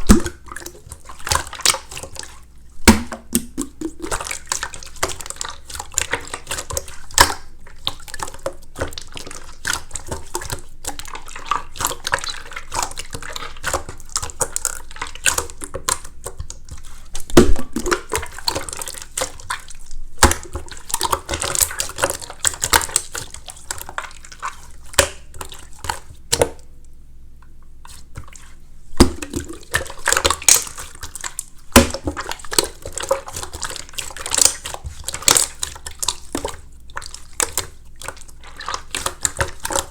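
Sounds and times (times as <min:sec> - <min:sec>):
slime squishing wet clicks: 0:00.0 - 0:26.6, 0:27.4 - 0:39.9.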